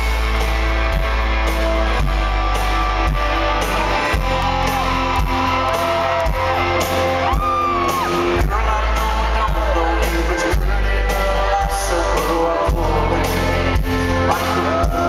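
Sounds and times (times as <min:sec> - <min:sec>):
drums steady beat: 0:00.0 - 0:15.0
electric guitar: 0:00.0 - 0:15.0
live rock band: 0:00.0 - 0:15.0.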